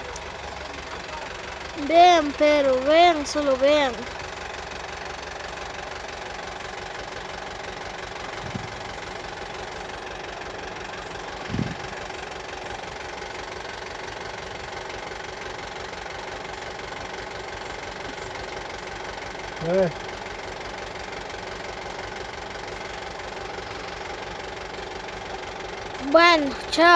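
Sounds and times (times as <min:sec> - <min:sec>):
engine idling: 0:00.0 - 0:26.9.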